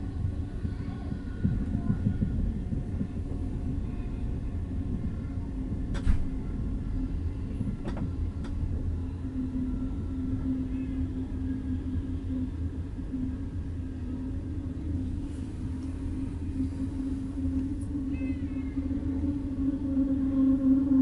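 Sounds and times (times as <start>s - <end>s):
steady hum: 0.0s - 21.0s
train running gear rumble: 0.0s - 21.0s.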